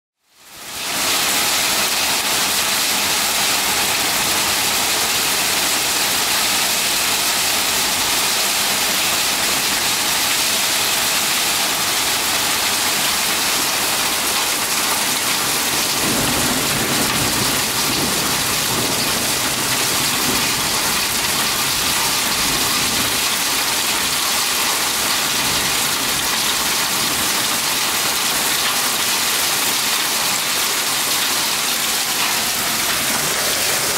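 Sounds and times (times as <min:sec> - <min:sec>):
heavy rain hissing: 0:00.4 - 0:33.9.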